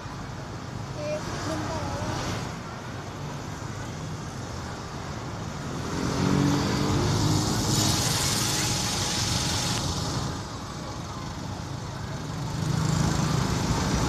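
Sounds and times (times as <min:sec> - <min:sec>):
bus driving past: 0:00.0 - 0:14.0.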